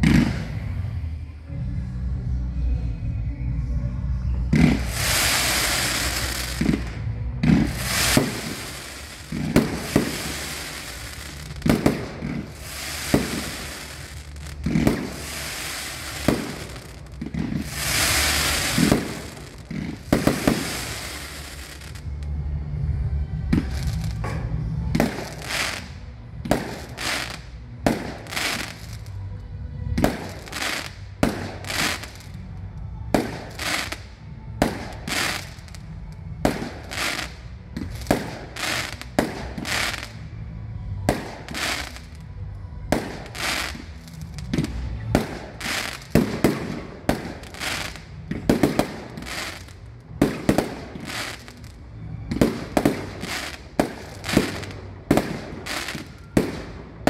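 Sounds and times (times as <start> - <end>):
fireworks bursting: 0.0 - 1.0, 4.5 - 22.2, 23.4 - 29.2, 29.9 - 40.3, 41.0 - 42.3, 42.9 - 57.0.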